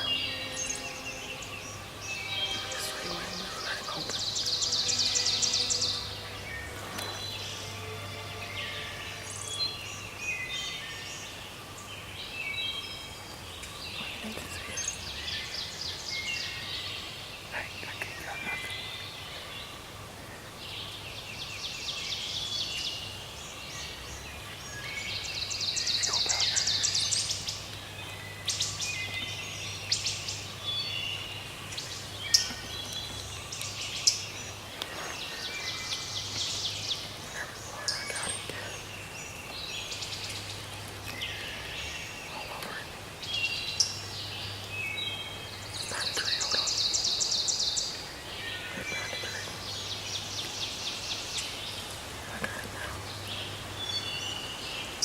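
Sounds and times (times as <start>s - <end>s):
bird chirps: 0.0s - 55.0s
songbirds singing trilled phrases: 0.0s - 55.0s.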